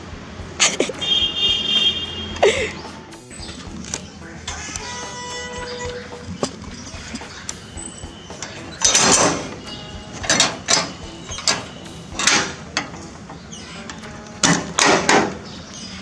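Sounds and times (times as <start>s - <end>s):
gate scraping and rattling: 1.0s - 16.0s.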